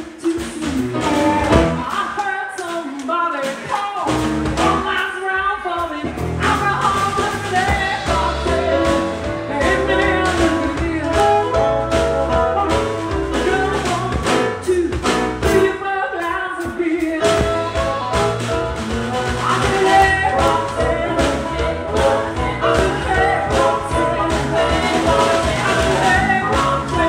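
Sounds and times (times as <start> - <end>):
drum beat: 0.0 - 15.8, 16.6 - 27.0
band music: 0.0 - 27.0
bass: 0.0 - 27.0
person singing: 0.0 - 27.0.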